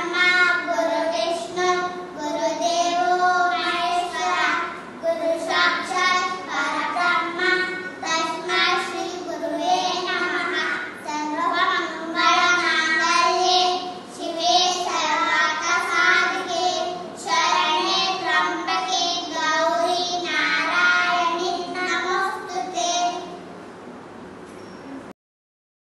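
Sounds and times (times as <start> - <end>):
children chanting: 0.0 - 23.3.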